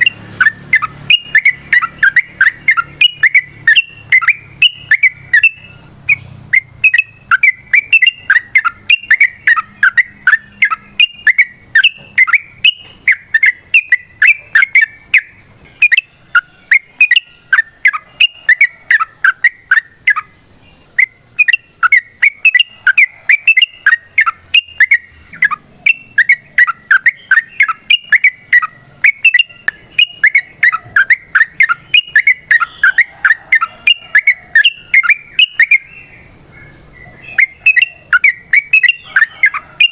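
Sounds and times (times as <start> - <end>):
bulbul singing chirping notes: 0.0 - 39.9.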